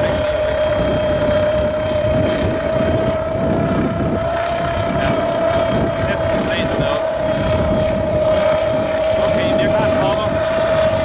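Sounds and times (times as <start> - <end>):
drone motors and propellers humming: 0.0 - 11.0.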